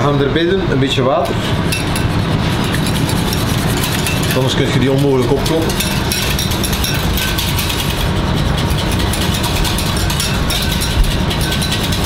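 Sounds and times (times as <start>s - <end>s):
whisk clicking against pan: 1.8s - 12.0s.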